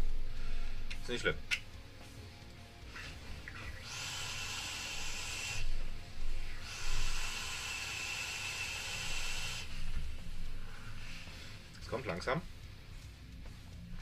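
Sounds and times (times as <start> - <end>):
electronic cigarette coil hissing: 0.0 - 14.0.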